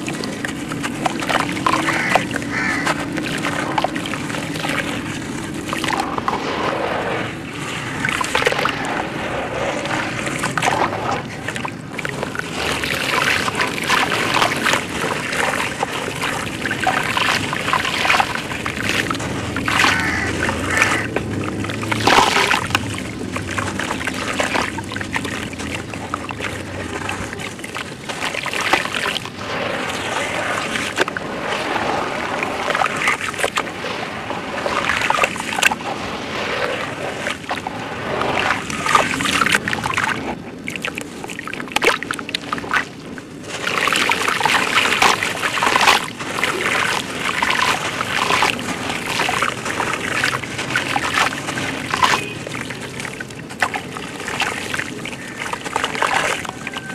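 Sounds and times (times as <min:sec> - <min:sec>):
muddy water sloshing: 0:00.0 - 0:56.9
sand and water trickling: 0:00.0 - 0:56.9.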